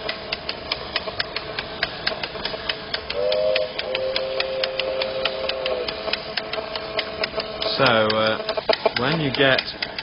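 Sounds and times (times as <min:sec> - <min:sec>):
toy train clicking on track: 0:00.0 - 0:10.0.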